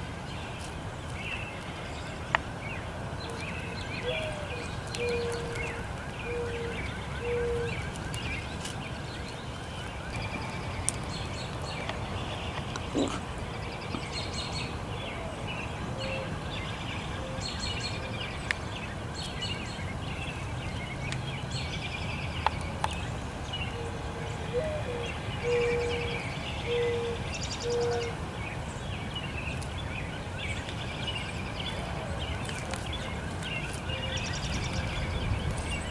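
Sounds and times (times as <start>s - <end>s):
songbirds chirping: 0.0s - 35.9s.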